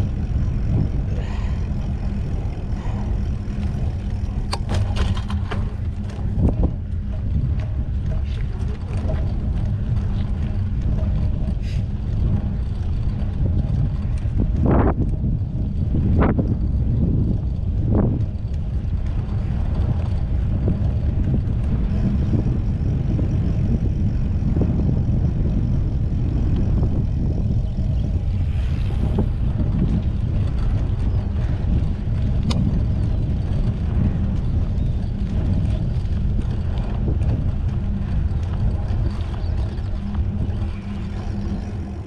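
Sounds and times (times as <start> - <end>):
bicycle clicks: 0.0 - 42.0
wind rumble on microphone: 0.0 - 42.0.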